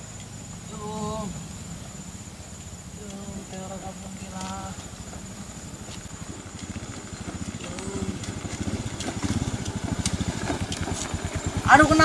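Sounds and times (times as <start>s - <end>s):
scooter engine putter: 0.0s - 12.0s.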